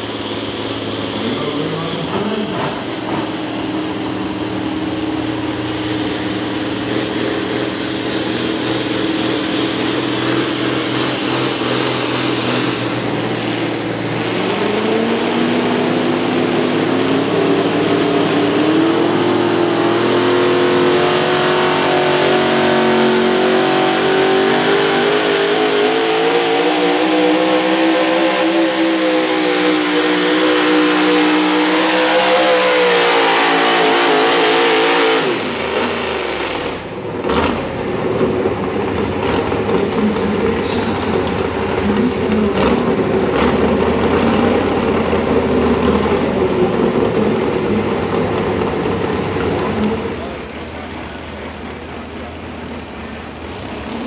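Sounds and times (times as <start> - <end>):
truck engine at full throttle: 0.0 - 54.0.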